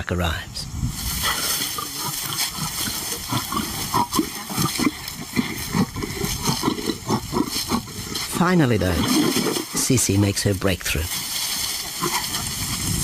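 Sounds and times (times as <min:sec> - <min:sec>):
lions growling and snarling: 0:01.2 - 0:10.0, 0:11.1 - 0:13.0.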